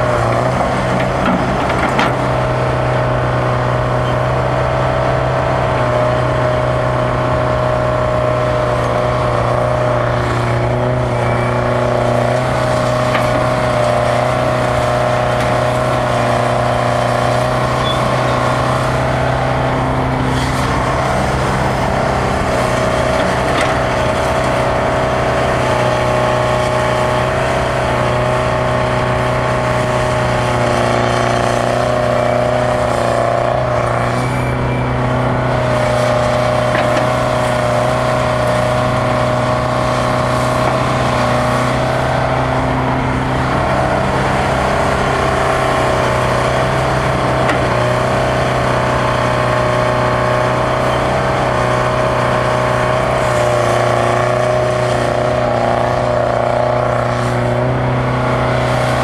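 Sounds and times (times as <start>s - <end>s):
excavator diesel engine droning: 0.0s - 59.0s.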